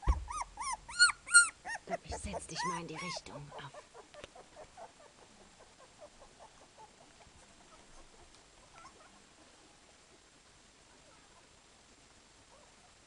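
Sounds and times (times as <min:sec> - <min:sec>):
puppies squeaking faintly: 0:00.0 - 0:10.2, 0:10.9 - 0:11.6, 0:12.4 - 0:13.0.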